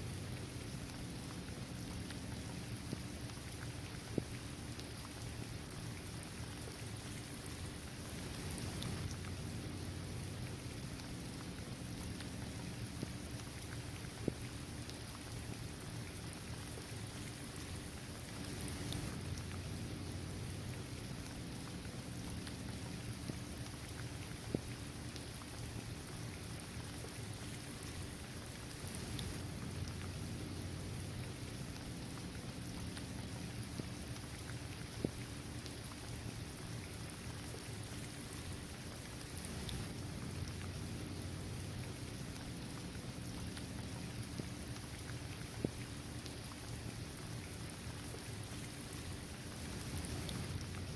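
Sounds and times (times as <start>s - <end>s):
rain falling on hard surface: 0.0s - 50.9s
water drip: 0.1s - 50.9s.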